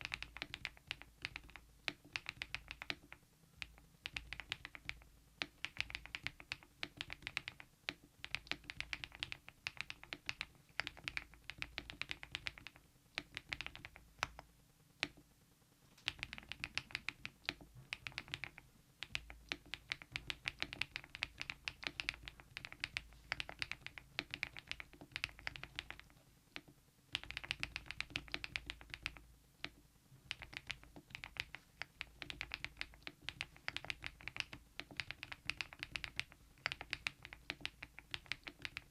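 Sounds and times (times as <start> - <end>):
typing on mechanical keyboard: 0.0 - 15.2, 16.0 - 38.9.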